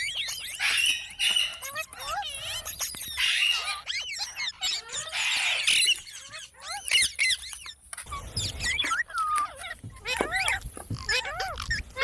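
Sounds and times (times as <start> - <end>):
parrot chirps and squawks: 0.0 - 12.0.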